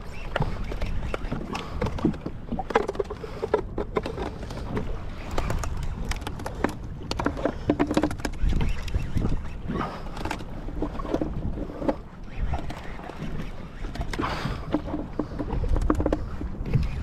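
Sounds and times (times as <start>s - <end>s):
water slapping kayak hull: 0.0s - 17.0s
wind rumble on microphone: 0.0s - 17.0s.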